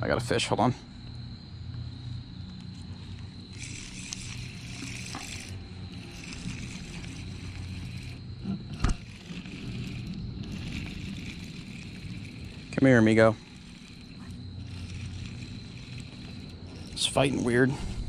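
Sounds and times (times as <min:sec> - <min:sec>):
fishing reel whirring: 0:03.0 - 0:18.0.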